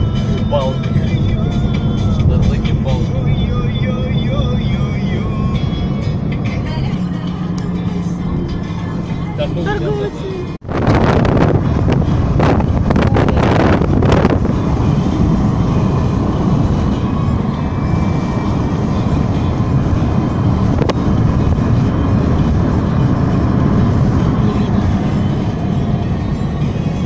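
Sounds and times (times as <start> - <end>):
vehicle rumbling in motion: 0.0 - 27.0.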